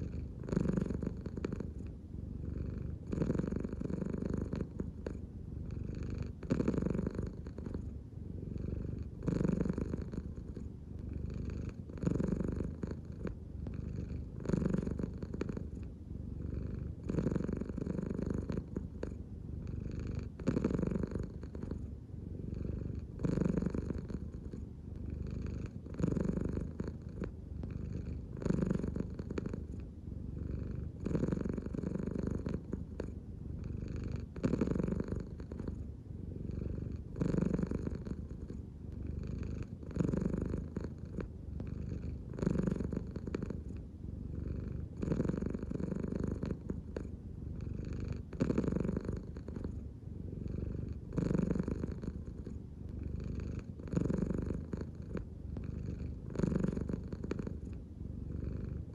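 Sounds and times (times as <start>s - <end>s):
cat purring: 0.0s - 58.9s.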